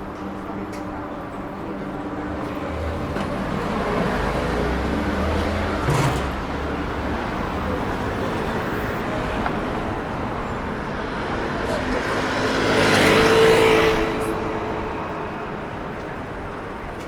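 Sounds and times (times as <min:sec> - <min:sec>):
road noise: 0:00.0 - 0:17.0
vehicle engine rumble passing: 0:00.5 - 0:17.0.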